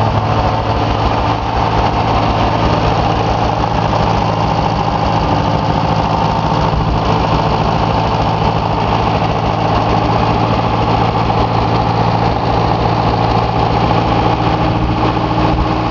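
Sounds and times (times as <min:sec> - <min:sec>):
tractor engine idling: 0:00.0 - 0:15.9.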